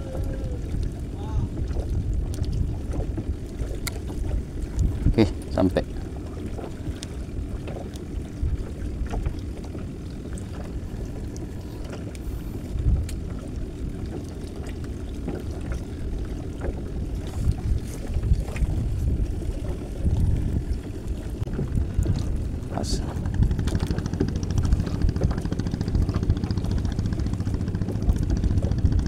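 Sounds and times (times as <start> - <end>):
water moving around boat: 0.0 - 29.0
wind rumbling on microphone: 0.0 - 29.0.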